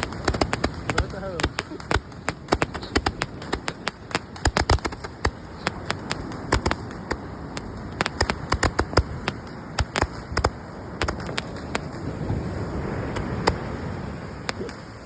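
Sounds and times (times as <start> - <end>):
fireworks popping: 0.0 - 15.0.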